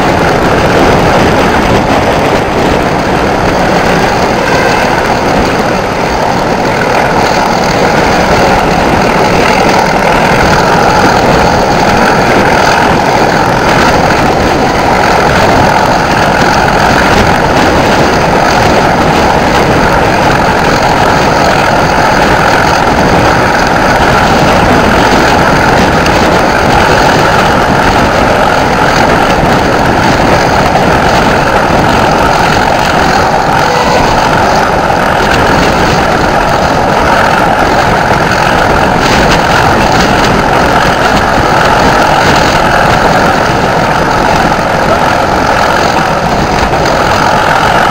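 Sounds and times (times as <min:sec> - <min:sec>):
diesel locomotive engine droning: 0:00.0 - 0:47.9
rush of moving train: 0:00.0 - 0:47.9.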